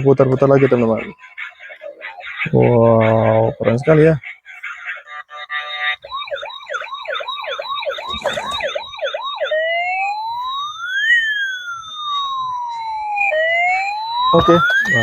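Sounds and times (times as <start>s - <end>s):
toy police siren warbling and wailing: 0.0s - 15.0s.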